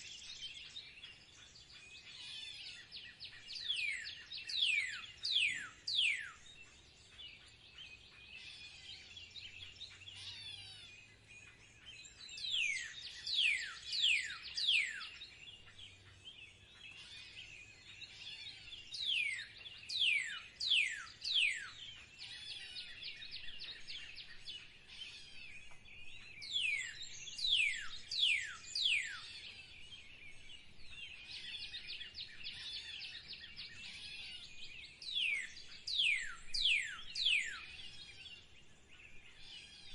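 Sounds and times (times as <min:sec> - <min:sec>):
birds twittering and chirping: 0:00.0 - 0:39.9.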